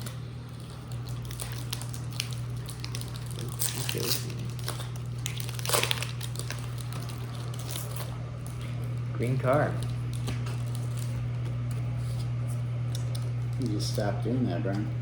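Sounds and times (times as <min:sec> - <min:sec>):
foil wrapper crinkling: 0:00.0 - 0:14.3
low steady hum: 0:00.0 - 0:15.0.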